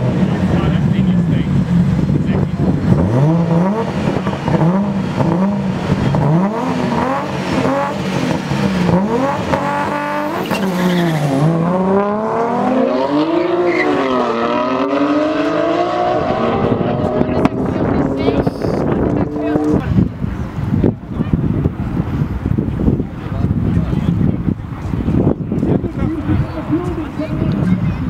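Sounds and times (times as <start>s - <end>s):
cars accelerating away: 0.0s - 23.3s
car engines revving: 0.0s - 28.0s.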